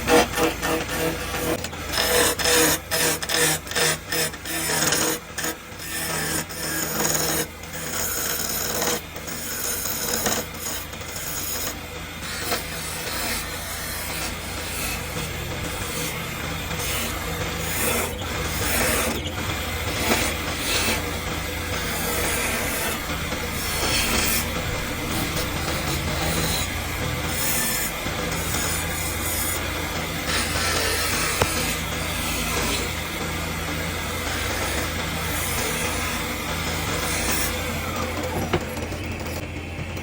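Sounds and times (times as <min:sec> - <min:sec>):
tool scraping spinning wood: 0:00.0 - 0:40.0
wood lathe turning: 0:00.0 - 0:40.0.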